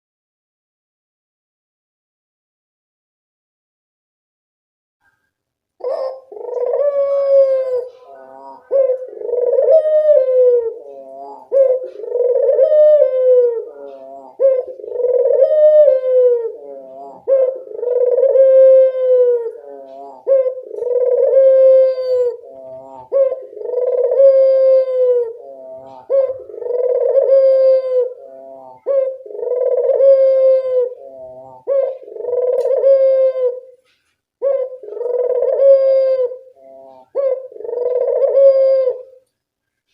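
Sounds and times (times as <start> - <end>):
dove cooing: 5.8 - 39.3.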